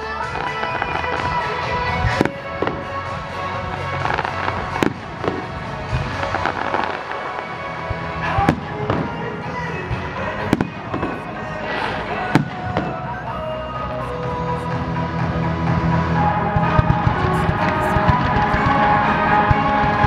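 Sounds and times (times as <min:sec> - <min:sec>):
fireworks crackle: 0:00.0 - 0:20.0
music playing: 0:00.0 - 0:20.0
fireworks bangs: 0:00.2 - 0:13.3, 0:16.3 - 0:20.0.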